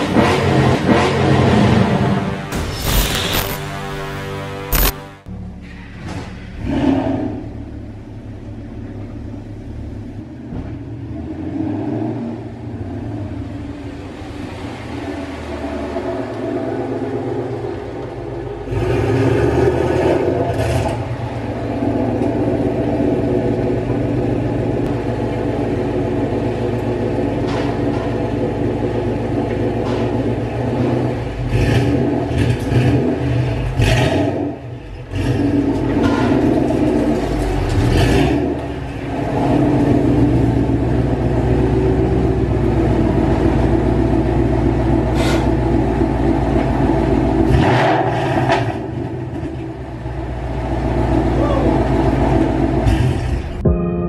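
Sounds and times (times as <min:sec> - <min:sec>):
car engine running: 0:00.0 - 0:47.6.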